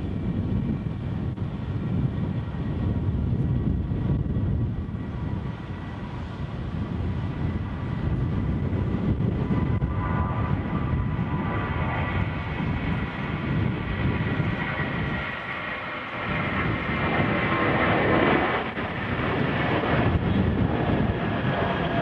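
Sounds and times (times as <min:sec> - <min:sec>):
high engine whine: 0:00.0 - 0:22.0
jet engines rumbling: 0:00.0 - 0:22.0.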